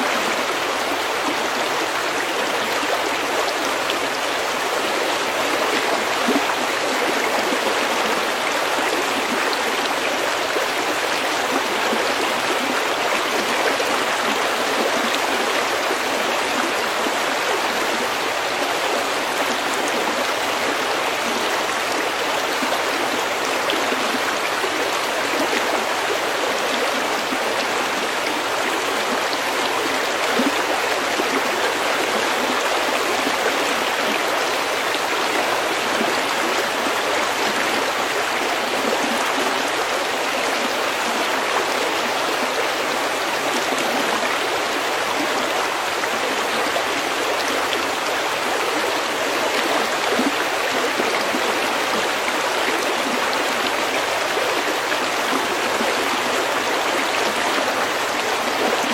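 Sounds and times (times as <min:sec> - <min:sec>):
stream flowing over pebbles: 0:00.0 - 0:58.9.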